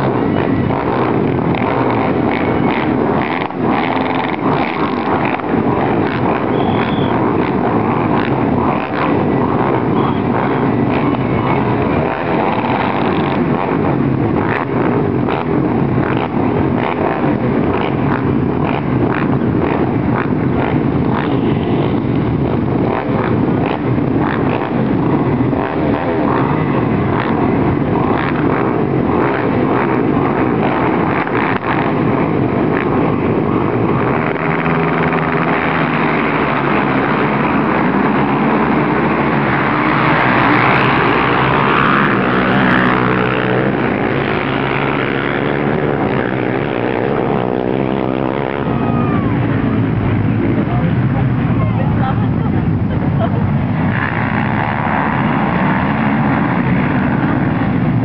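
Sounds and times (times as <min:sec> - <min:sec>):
engine throttle blips: 0:00.0 - 0:58.0
quad engines running: 0:00.0 - 0:58.0.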